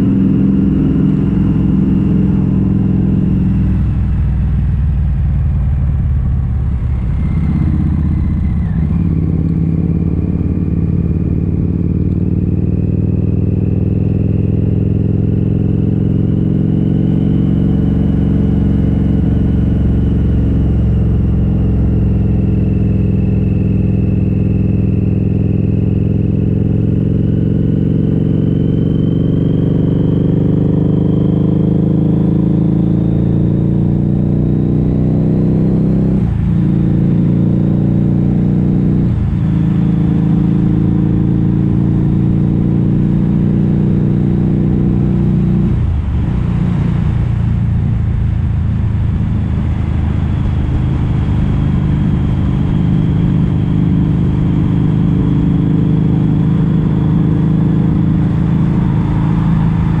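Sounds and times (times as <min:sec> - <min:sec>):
motorcycle engine at riding speed: 0:00.0 - 1:00.0.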